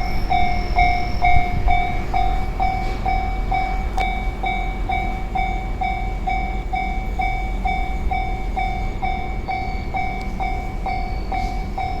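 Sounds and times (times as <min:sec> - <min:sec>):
level crossing warning bell: 0:00.0 - 0:12.0
steady low rumble: 0:00.0 - 0:12.0.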